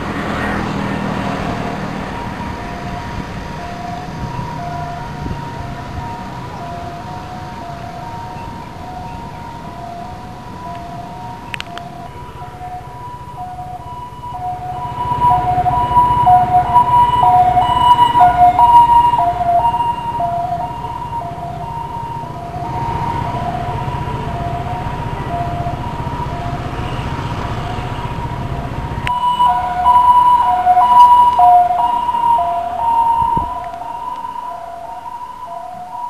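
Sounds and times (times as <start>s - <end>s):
two-tone siren: 0.0s - 36.0s
vehicle engine rumble: 0.0s - 36.0s.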